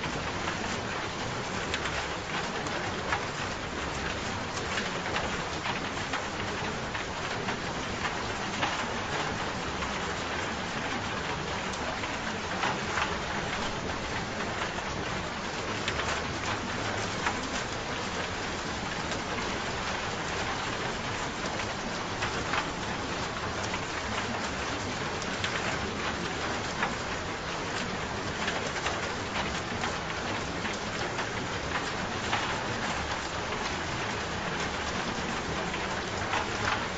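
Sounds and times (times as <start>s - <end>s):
raindrops pattering: 0.0s - 36.9s
steady rain falling: 0.0s - 36.9s.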